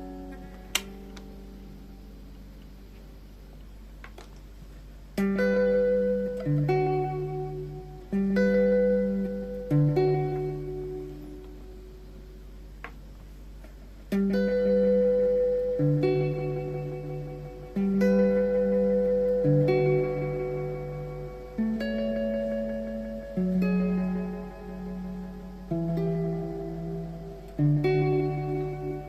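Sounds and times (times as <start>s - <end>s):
guitar chords ringing: 0.0s - 4.0s, 5.0s - 29.0s.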